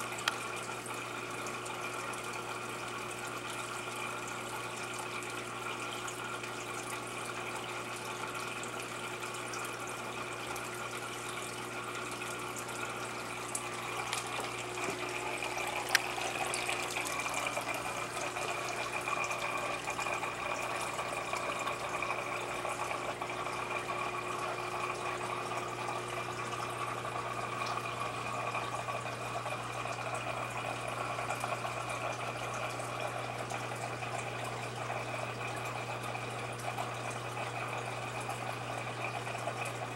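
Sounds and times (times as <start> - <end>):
low pump hum: 0.0 - 39.9
trickling water: 0.0 - 39.9.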